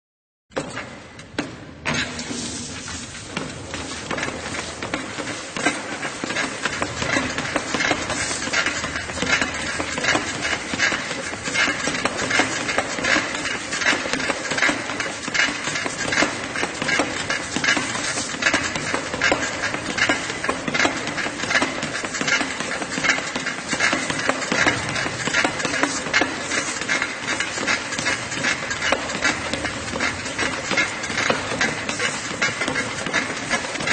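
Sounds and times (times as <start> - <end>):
footfalls on treadmill deck: 0.5 - 33.9
treadmill belt and motor running: 0.6 - 33.9.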